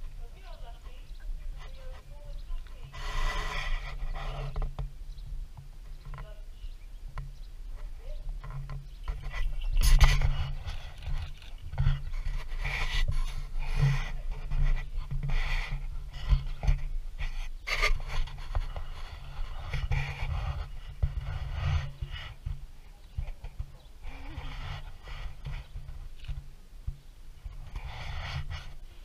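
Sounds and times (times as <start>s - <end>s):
wind buffeting microphone: 0.0s - 28.8s.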